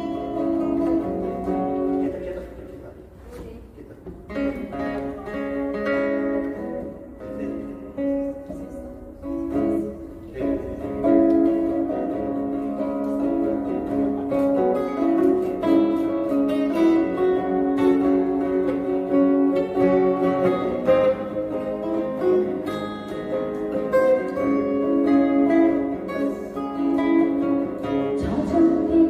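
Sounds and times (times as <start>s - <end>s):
acoustic guitars playing: 0.0s - 29.0s.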